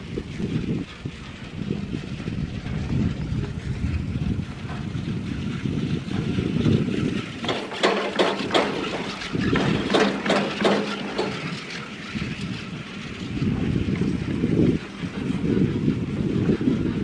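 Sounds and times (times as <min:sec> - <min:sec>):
chairlift rattling through rollers: 0:00.0 - 0:17.0
low hum: 0:00.0 - 0:17.0
wind buffeting microphone: 0:00.0 - 0:17.0.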